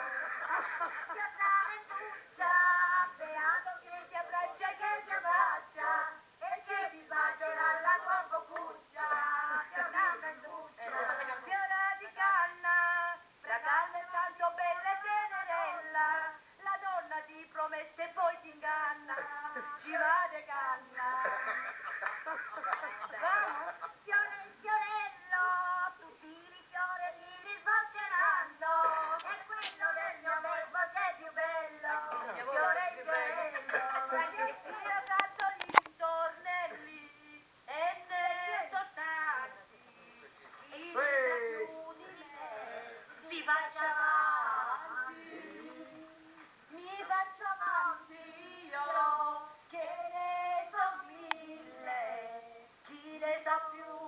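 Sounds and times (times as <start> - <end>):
person singing folk song: 0.0 - 39.7, 40.4 - 54.0.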